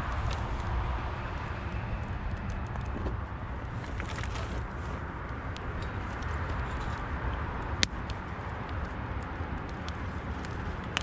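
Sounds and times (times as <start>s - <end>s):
campfire crackling: 0.0s - 11.0s
low fire rumble: 0.0s - 11.0s.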